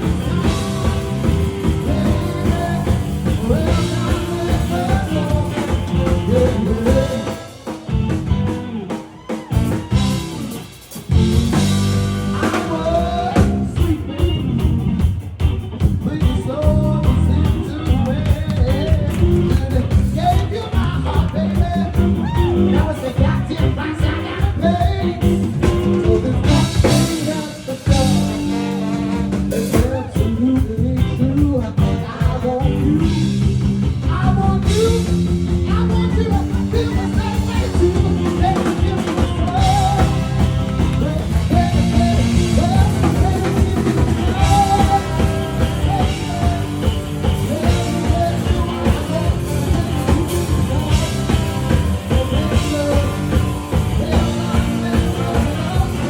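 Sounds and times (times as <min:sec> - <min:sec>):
person singing: 0:00.0 - 0:14.7, 0:16.0 - 0:56.0
live rock band playing: 0:00.0 - 0:56.0.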